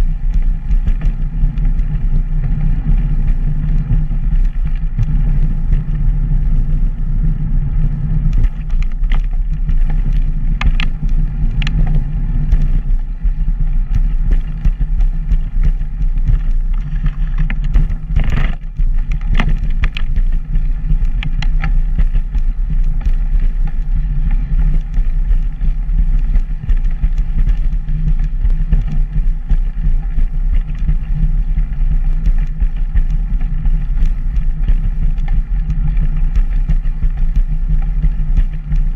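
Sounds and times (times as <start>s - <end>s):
wheels rolling on pavement: 0.0s - 38.9s
wind buffeting microphone: 0.0s - 38.9s.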